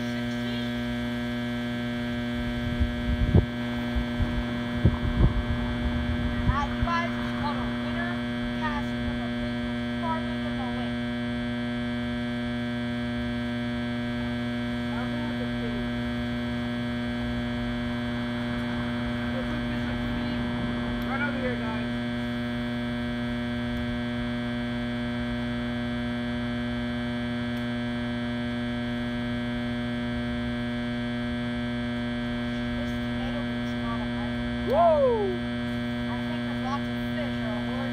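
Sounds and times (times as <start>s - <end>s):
generator hum: 0.0s - 37.9s.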